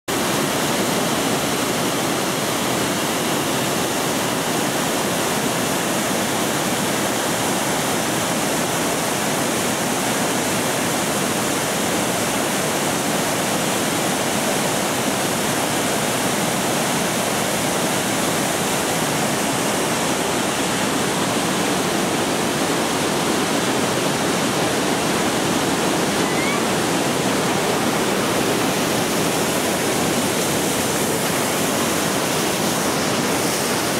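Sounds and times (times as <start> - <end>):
mountain stream rushing over boulders: 0.1 - 33.9.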